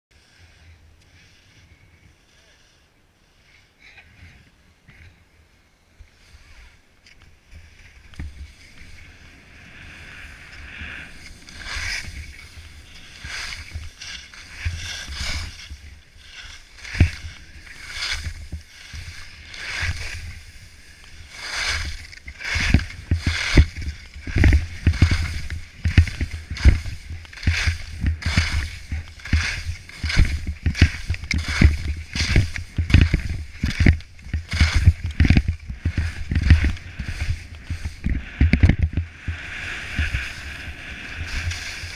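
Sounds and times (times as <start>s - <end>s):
skis swishing on packed snow: 0.2s - 4.8s, 5.8s - 41.9s
skis thumping on bumps: 7.0s - 41.9s.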